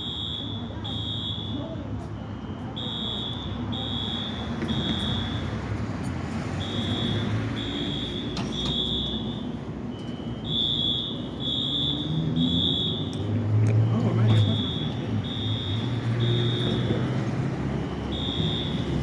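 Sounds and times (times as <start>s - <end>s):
fire alarm beeping: 0.0s - 5.8s, 6.5s - 19.0s.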